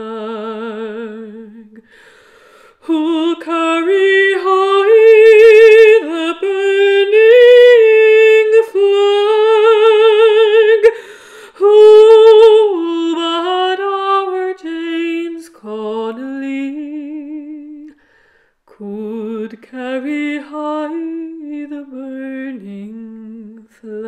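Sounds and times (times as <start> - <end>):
woman singing folk ballad: 0.0 - 24.0.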